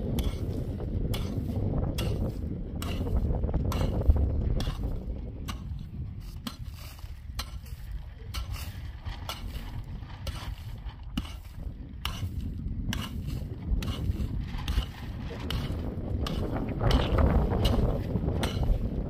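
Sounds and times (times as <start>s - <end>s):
mattock chopping into dry earth: 0.0s - 19.0s.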